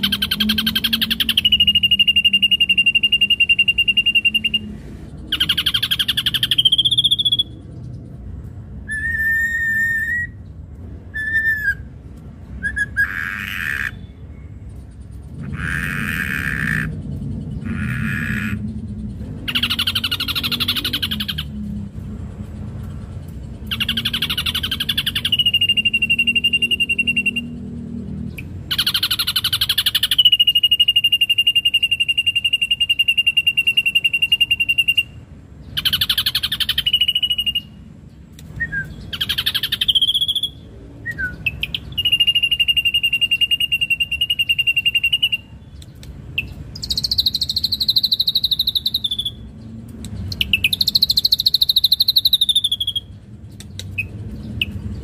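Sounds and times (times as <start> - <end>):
bird buzzy rattling song: 0.0 - 55.0.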